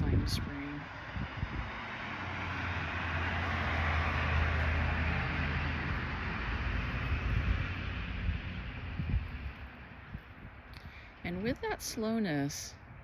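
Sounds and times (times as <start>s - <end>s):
vehicle passing by: 0.0s - 10.5s.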